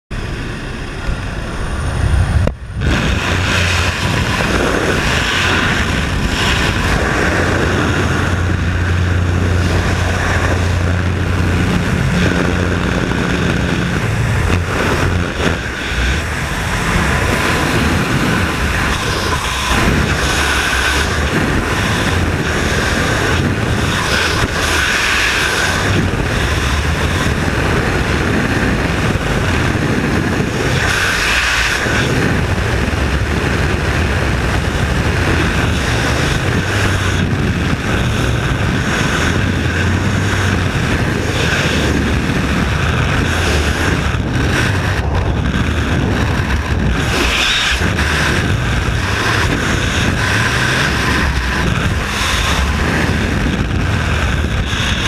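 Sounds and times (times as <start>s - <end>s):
propeller engine hum: 0.0s - 55.0s
wind buffeting a camera: 0.1s - 55.0s
wind rushing: 0.1s - 55.0s.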